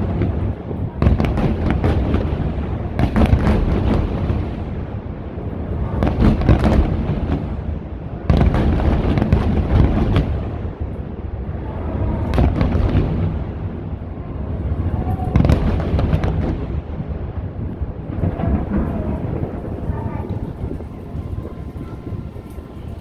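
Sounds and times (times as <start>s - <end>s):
deep rumble of booms: 0.0s - 23.0s
fireworks crackling bursts: 0.0s - 23.0s.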